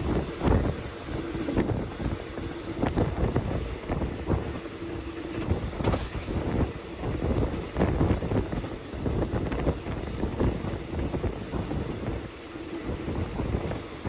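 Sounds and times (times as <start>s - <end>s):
train rumbling along track: 0.0s - 14.0s
wind buffeting microphone: 0.0s - 14.0s.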